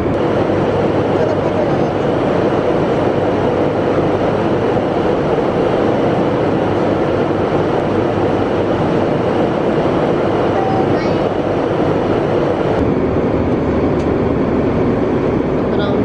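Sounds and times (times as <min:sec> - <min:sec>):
airliner cabin rushing noise: 0:00.0 - 0:16.0.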